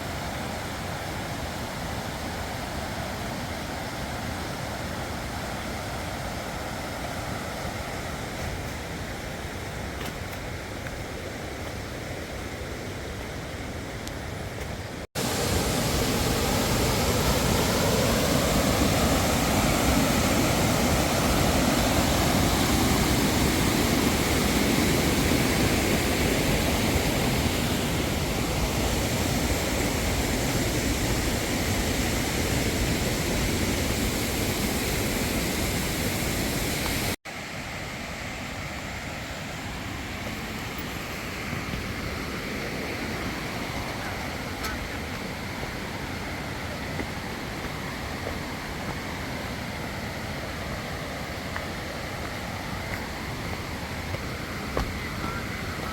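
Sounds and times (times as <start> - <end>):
flowing water rushing: 0.0 - 55.9.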